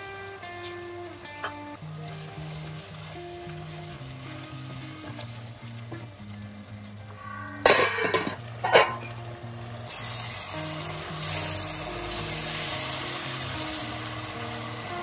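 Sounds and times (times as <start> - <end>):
curry sizzling in a pan: 0.0 - 15.0
soft background music: 0.0 - 15.0.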